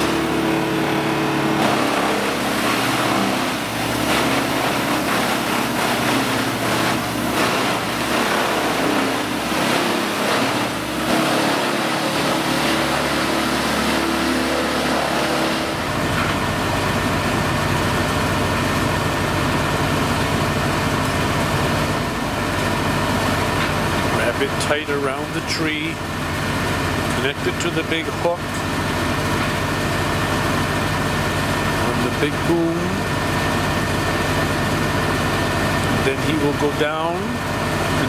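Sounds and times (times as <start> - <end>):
heavy machinery engines: 0.0 - 38.0.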